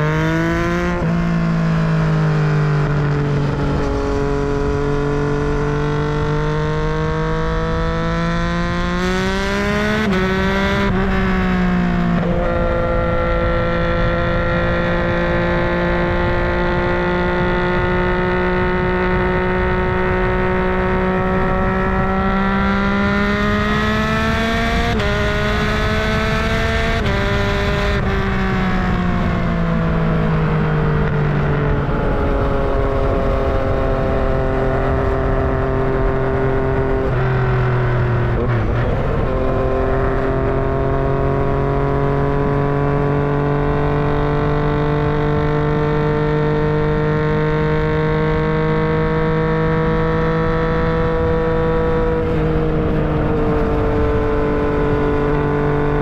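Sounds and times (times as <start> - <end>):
motorcycle engine and exhaust: 0.0 - 56.0.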